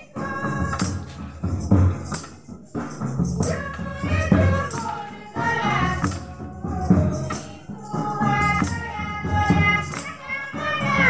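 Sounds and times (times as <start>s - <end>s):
drum beat: 0.0s - 11.0s
jingling tambourine percussion: 0.0s - 11.0s
voices singing together: 0.0s - 11.0s.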